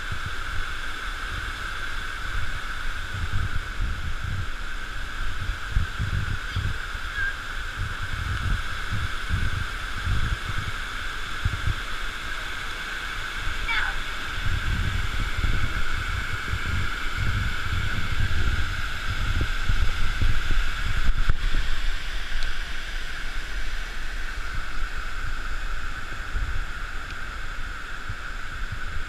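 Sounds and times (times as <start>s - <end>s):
waterfall rushing into pool: 0.0s - 29.0s
wind buffeting microphone: 0.0s - 29.0s.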